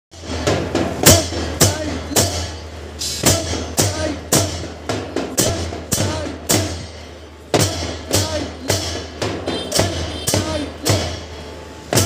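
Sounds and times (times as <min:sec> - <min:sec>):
marching drum beat: 0:00.1 - 0:12.0.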